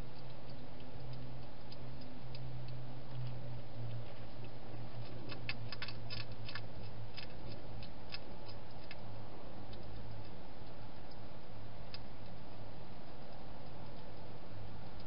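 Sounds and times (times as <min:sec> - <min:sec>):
hedgehog chewing food: 0:00.0 - 0:15.0
steady low hum: 0:00.0 - 0:15.0.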